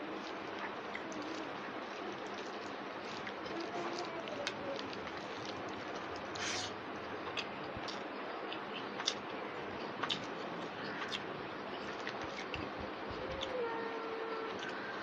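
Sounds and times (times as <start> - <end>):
person chewing: 0.2 - 9.3, 10.0 - 13.5.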